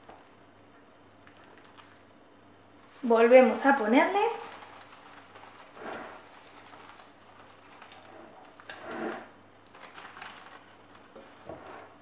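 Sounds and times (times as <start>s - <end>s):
cling film crinkling: 0.1s - 12.0s.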